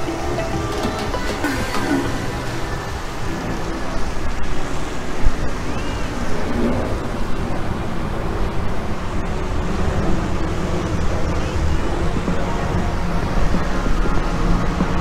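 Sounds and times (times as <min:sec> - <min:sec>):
outdoor noise: 0:00.0 - 0:15.0
wind buffeting microphone: 0:00.0 - 0:15.0.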